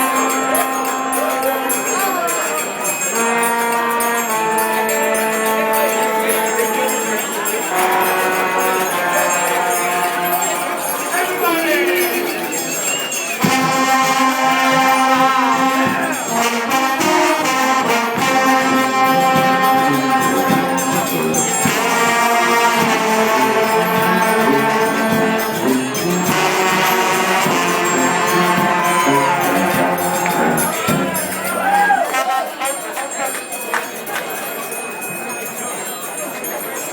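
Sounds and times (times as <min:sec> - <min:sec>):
trombones playing a tune: 0:00.0 - 0:11.0, 0:13.3 - 0:33.0.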